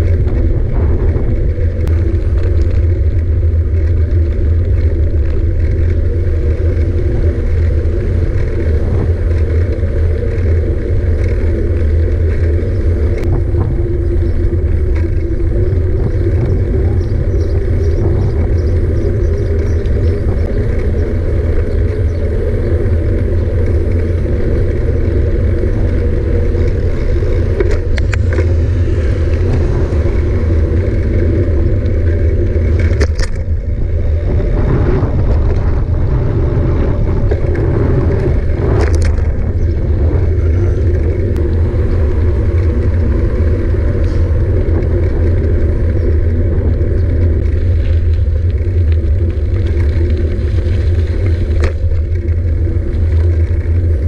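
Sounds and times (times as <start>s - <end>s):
bike trail vibration: 0.0s - 54.0s
wind rumble: 0.0s - 54.0s.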